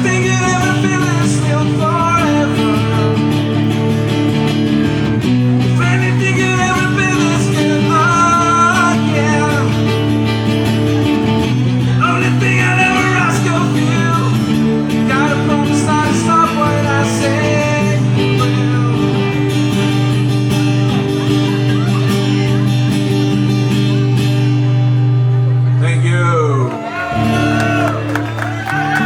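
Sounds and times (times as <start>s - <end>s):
rock music with guitar: 0.0s - 25.8s.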